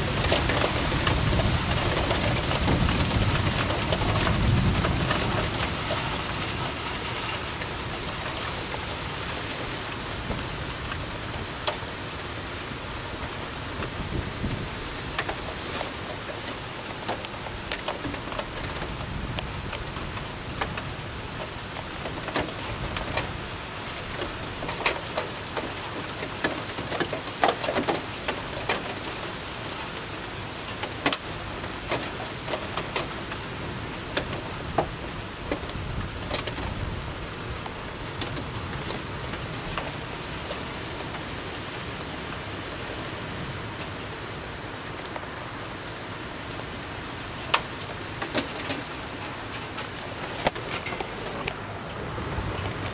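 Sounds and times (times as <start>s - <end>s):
sharp raindrops striking close: 0.0s - 52.9s
steady rain: 0.0s - 52.9s.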